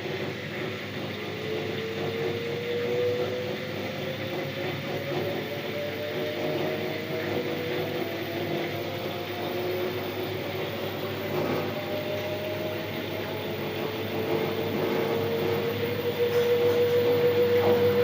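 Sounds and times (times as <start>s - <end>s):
washing machine whine: 0.0s - 18.0s.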